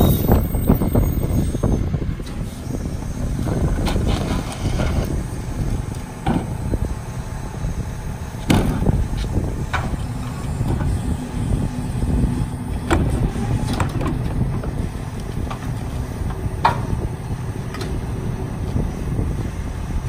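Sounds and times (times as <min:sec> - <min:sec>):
diesel engine idling: 0:00.0 - 0:20.0
hydraulic tipper hum: 0:00.0 - 0:20.0.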